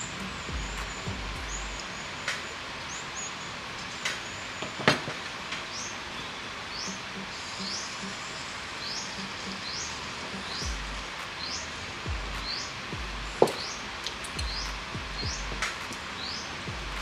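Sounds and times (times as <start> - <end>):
bird chirping: 0.0 - 4.8, 5.6 - 17.0
steady hiss: 0.0 - 17.0.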